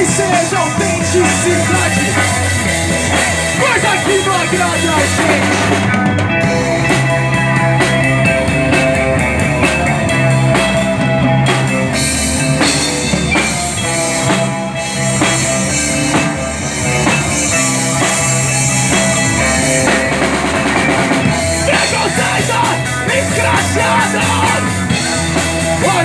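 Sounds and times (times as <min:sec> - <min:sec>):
bass guitar: 0:00.0 - 0:26.0
drum kit beating: 0:00.0 - 0:26.0
electric guitar: 0:00.0 - 0:26.0.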